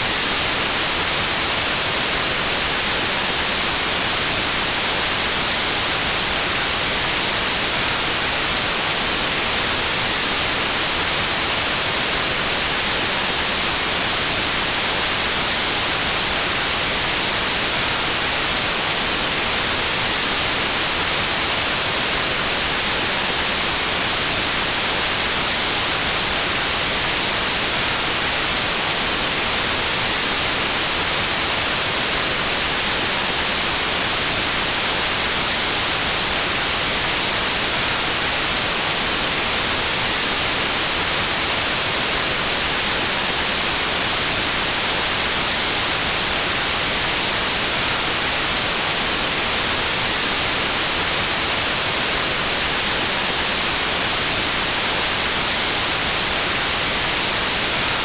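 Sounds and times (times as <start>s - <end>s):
steady white noise hiss: 0.0s - 58.0s.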